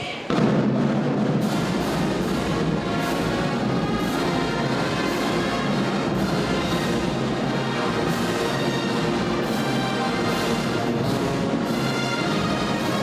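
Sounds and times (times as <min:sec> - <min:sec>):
brass band playing: 0:00.3 - 0:13.0.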